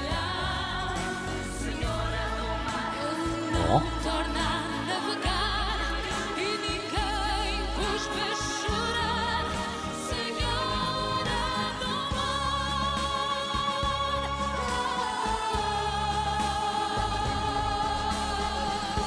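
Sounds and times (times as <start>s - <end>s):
instrumental accompaniment with deep bass: 0.0s - 19.0s
woman singing soprano with vibrato: 0.0s - 19.0s.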